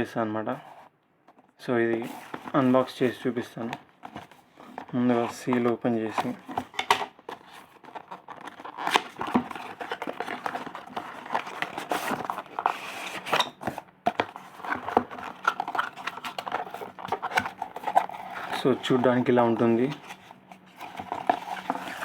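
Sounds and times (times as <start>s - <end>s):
packaging crinkling and rustling: 1.9s - 22.0s
clicks and scrapes: 4.0s - 22.0s.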